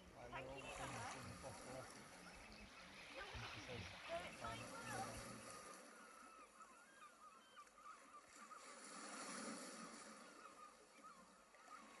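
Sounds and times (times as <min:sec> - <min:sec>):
faint birds calling: 0:00.0 - 0:12.0.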